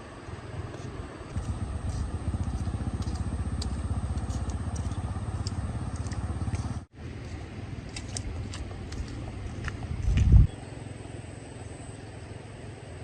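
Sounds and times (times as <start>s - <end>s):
small engine running: 1.3s - 13.0s.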